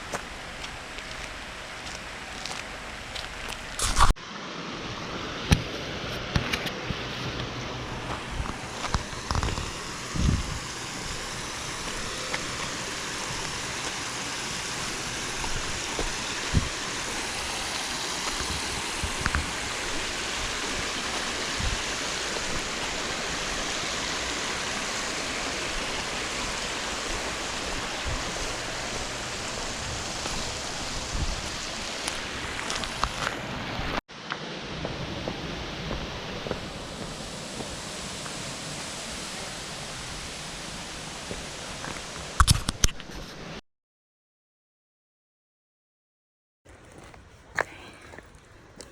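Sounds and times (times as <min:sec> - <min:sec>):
stream water rushing: 0:00.0 - 0:42.7.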